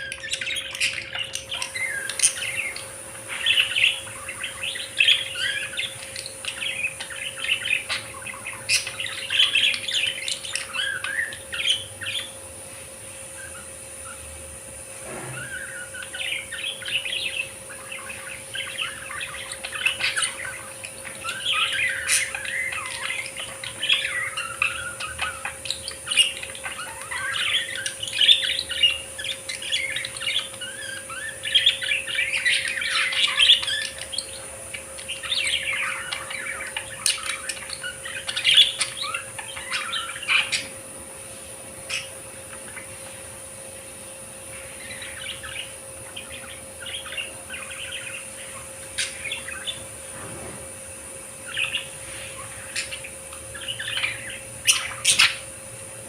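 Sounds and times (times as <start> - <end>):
budgerigars chattering: 0.0 - 14.4, 15.0 - 50.1, 51.1 - 56.0.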